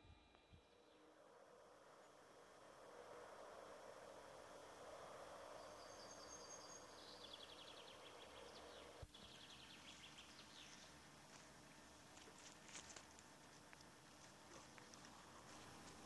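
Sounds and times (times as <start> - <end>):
faint songbird song: 0.0 - 16.0
tape hiss: 0.0 - 16.0.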